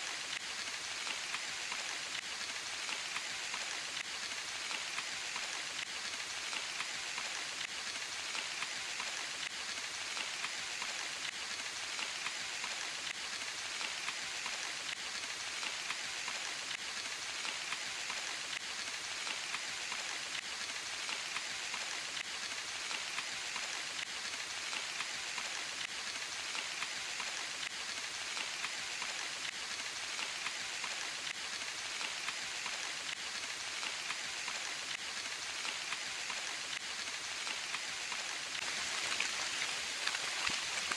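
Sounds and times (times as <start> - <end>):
rain on leaves: 0.0 - 40.9.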